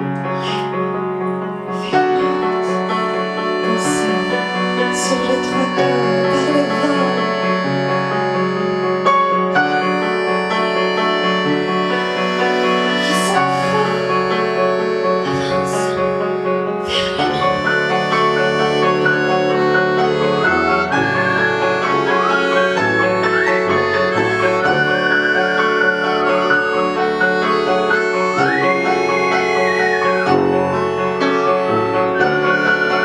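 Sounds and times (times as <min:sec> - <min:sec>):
keyboard chords: 0:00.0 - 0:33.0.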